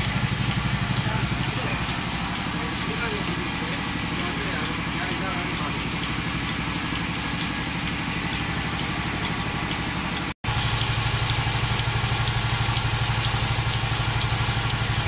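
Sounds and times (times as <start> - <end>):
vacuum pump running: 0.0 - 15.0.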